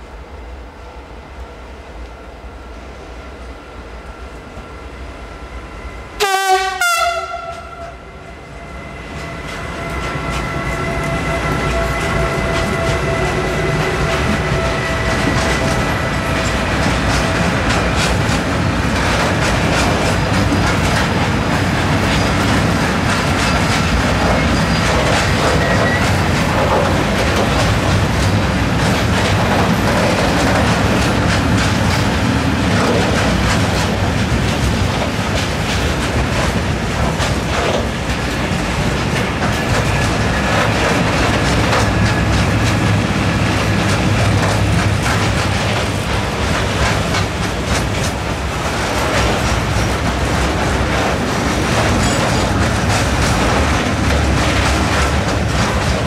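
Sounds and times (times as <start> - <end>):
train rumbling past: 0.0 - 56.0
wheels clacking over rail joints: 9.4 - 56.0.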